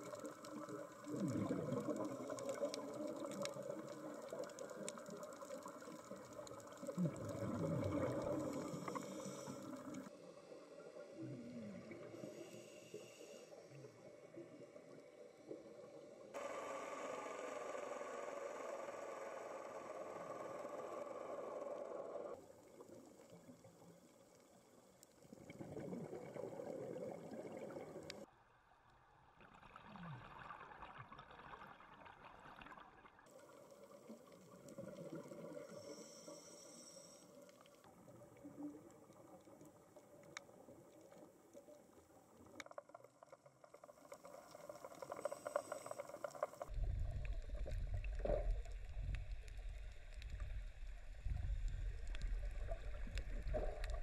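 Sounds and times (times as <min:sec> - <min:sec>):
muffled underwater water noise: 0:00.0 - 0:54.0.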